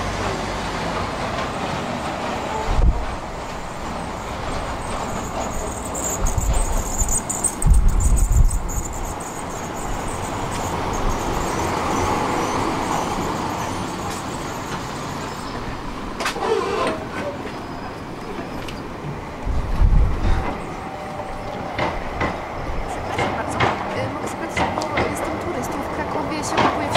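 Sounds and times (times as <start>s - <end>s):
tram rumbling on tracks: 0.0s - 26.9s.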